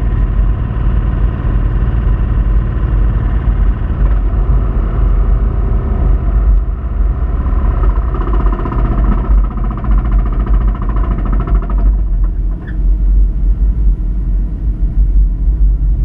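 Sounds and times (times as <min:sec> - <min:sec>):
car engine with knocking bearing: 0:00.0 - 0:16.0
low rumble of moving car: 0:00.0 - 0:16.0.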